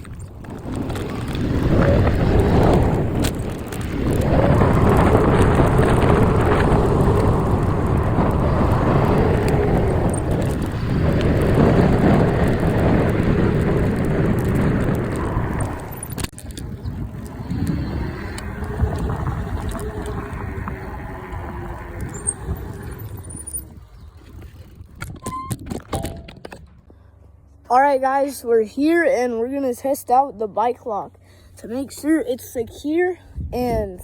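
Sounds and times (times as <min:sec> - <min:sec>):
wind rumble on microphone: 0:00.0 - 0:26.9, 0:32.1 - 0:34.0.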